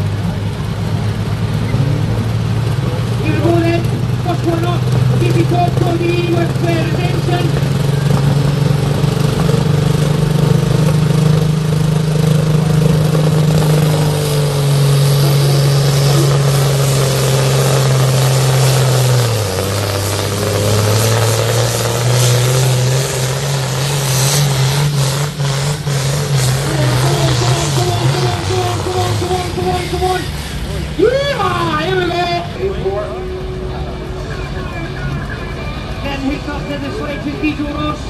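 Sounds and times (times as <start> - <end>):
engine crackling: 0.0 - 38.0
tractor engine at full throttle: 0.0 - 38.0.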